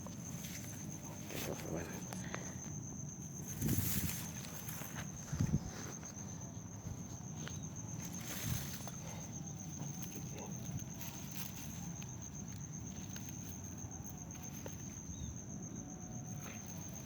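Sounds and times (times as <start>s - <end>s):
faint clicks and rustles: 0.0s - 15.6s
insect pulsing trill: 0.0s - 17.0s.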